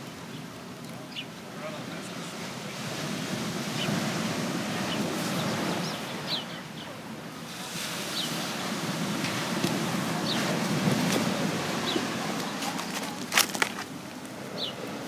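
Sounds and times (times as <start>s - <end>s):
ocean surf: 0.0s - 15.0s
wind: 0.0s - 15.0s.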